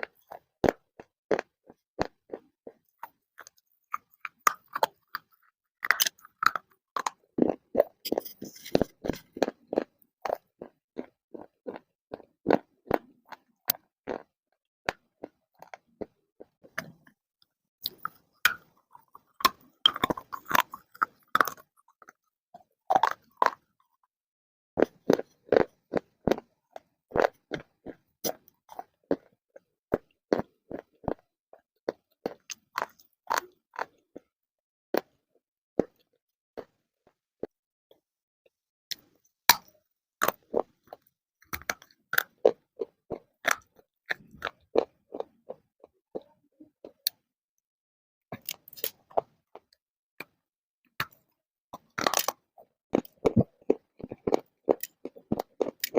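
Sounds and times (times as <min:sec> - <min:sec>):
person chewing crunchy clay: 0:00.0 - 0:17.2, 0:17.8 - 0:24.1, 0:24.8 - 0:34.3, 0:34.9 - 0:38.0, 0:38.9 - 0:47.2, 0:48.3 - 0:55.9.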